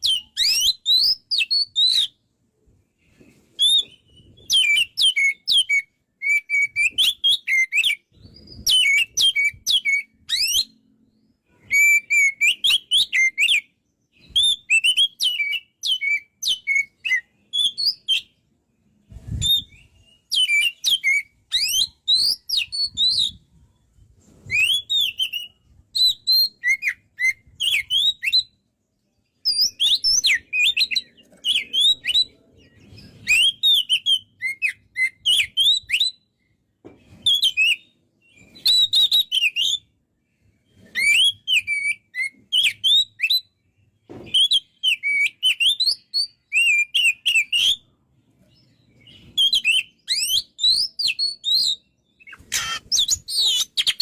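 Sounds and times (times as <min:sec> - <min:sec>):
bird singing whistles and chirps: 0:00.0 - 0:02.2, 0:03.6 - 0:18.4, 0:19.0 - 0:54.0.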